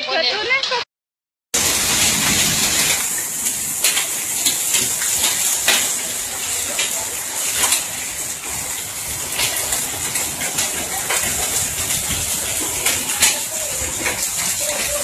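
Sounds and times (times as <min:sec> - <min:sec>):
hailstones striking hard surfaces: 0:01.6 - 0:15.0
rain rushing: 0:01.6 - 0:15.0.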